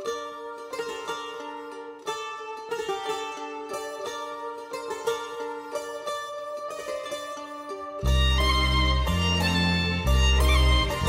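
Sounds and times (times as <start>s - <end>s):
plucked string instrument melody: 0.0s - 11.0s.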